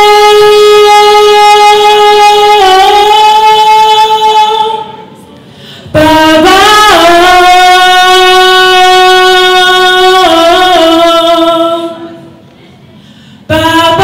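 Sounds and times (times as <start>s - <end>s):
woman singing long held note: 0.0s - 5.0s, 6.0s - 12.2s.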